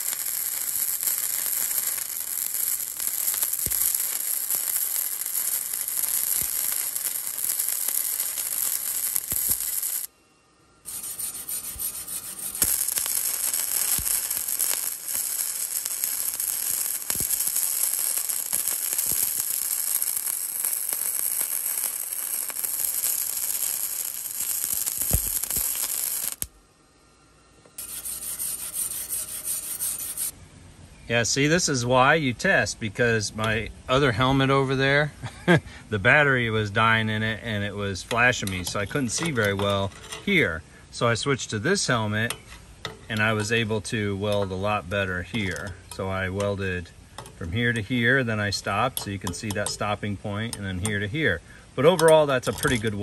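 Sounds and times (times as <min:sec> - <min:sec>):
welding arc crackling: 0:00.0 - 0:10.1, 0:10.9 - 0:26.6, 0:27.8 - 0:30.4, 0:36.1 - 0:53.0.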